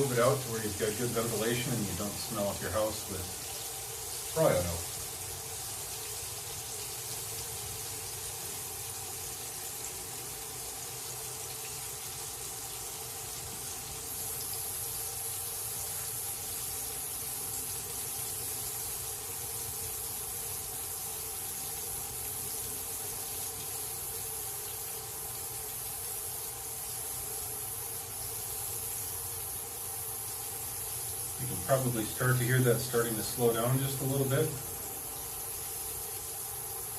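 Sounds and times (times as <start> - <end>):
fish sizzling in oil: 0.0 - 36.9.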